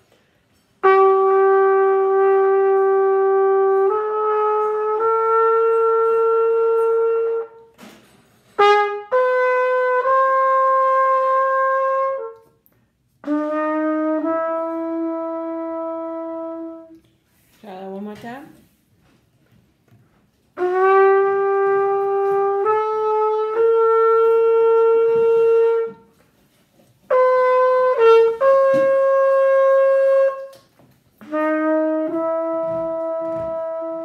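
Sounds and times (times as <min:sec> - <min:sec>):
trumpet playing slow melody: 0:00.0 - 0:17.5, 0:20.3 - 0:34.0.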